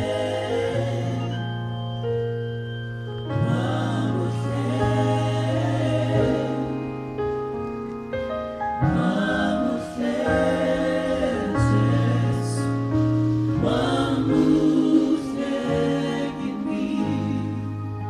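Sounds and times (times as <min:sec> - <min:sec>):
gospel group singing in harmony: 0:00.0 - 0:07.4, 0:08.7 - 0:18.0.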